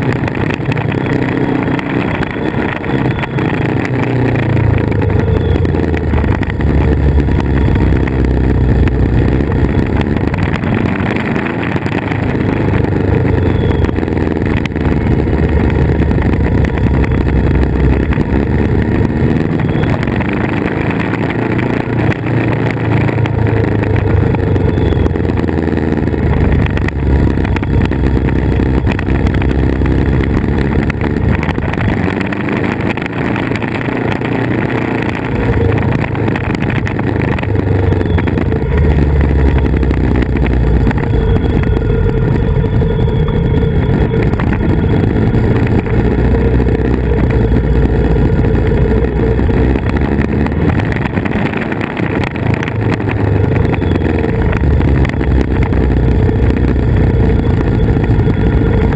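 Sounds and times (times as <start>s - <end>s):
motorcycle engine running: 0.0s - 58.9s
wind rushing over camera: 0.0s - 58.9s.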